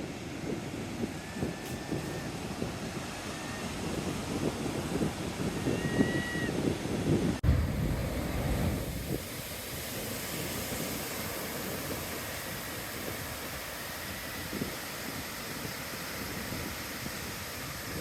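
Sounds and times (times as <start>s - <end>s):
ocean surf washing in: 0.0s - 18.0s
wind buffeting microphone: 0.0s - 18.0s.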